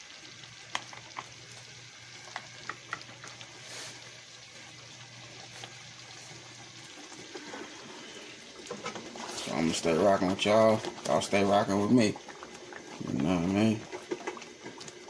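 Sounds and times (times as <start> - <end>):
gravy sizzling and bubbling: 0.0 - 15.0.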